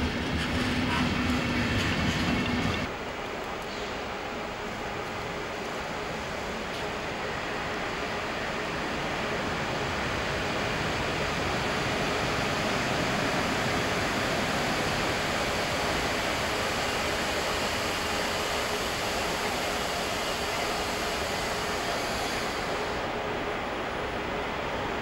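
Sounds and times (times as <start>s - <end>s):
electric locomotive rushing and humming: 0.0s - 25.0s.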